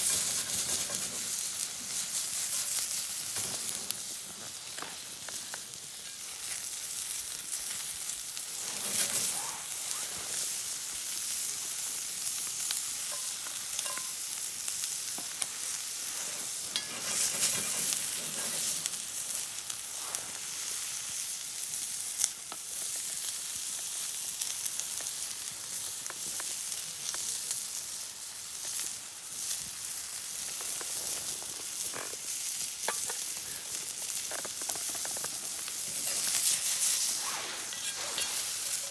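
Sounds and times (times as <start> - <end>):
crackles and pops: 0.0 - 38.9
food sizzling in a pan: 0.0 - 38.9.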